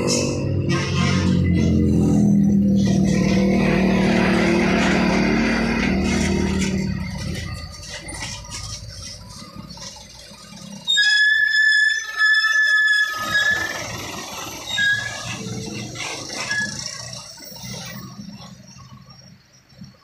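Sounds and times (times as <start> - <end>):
truck brakes squealing: 0.0 - 20.0.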